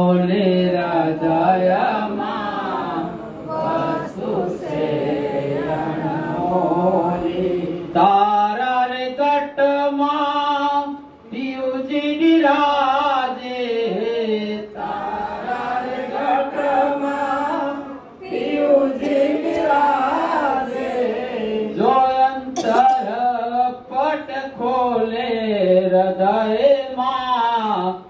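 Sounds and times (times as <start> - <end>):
person singing devotional song: 0.0 - 27.2.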